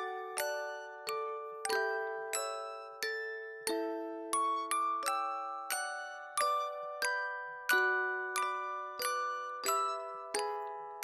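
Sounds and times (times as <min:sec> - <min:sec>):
bell-like lullaby melody: 0:00.0 - 0:11.0.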